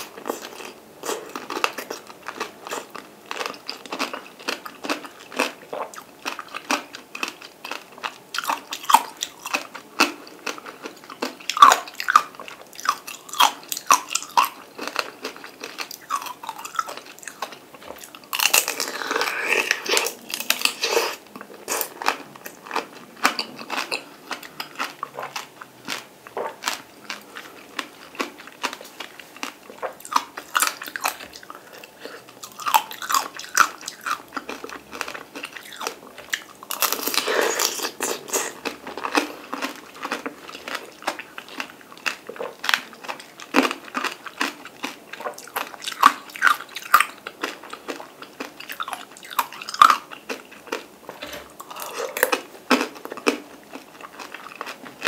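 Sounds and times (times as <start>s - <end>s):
juicy chewing and mouth smacks: 0.0s - 55.0s.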